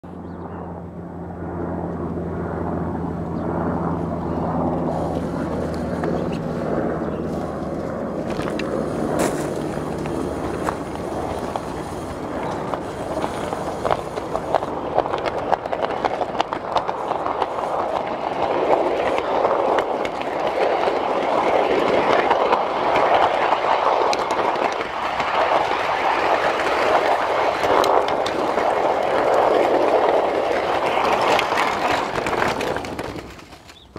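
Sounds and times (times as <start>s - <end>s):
wheels rolling on track: 4.8s - 33.9s.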